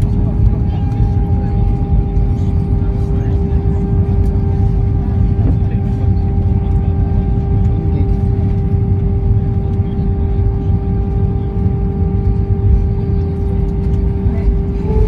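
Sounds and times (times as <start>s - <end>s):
airliner cabin rumble: 0.0s - 15.0s
mid-pitched whine: 0.0s - 15.0s.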